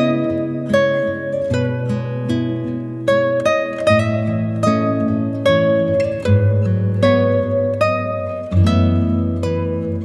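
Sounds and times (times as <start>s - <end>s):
plucked strings playing slow tune: 0.0s - 10.0s.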